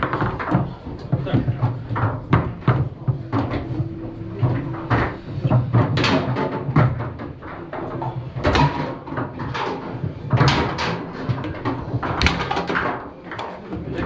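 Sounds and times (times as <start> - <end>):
foosball ball knocking: 0.0 - 14.0.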